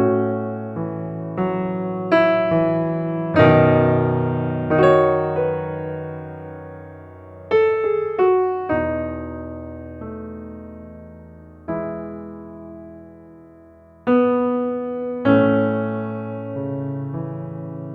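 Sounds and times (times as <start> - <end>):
slow gentle piano music: 0.0 - 17.9.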